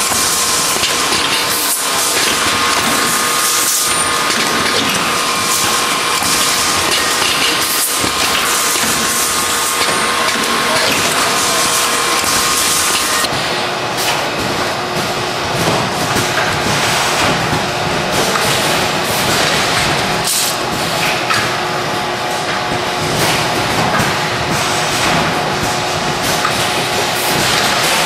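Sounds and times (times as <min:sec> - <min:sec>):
machine clattering metal tubes: 0:00.0 - 0:13.4, 0:15.5 - 0:28.0.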